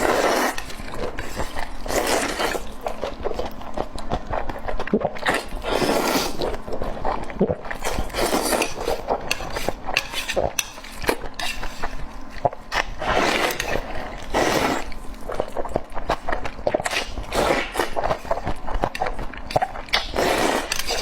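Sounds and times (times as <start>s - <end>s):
wet chewing and slurping: 0.0s - 21.0s.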